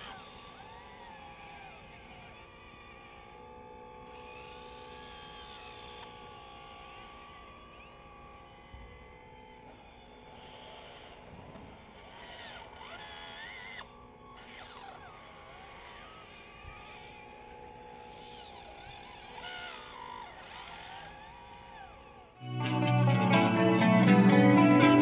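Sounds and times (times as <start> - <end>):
model excavator motors whirring: 0.0 - 22.4.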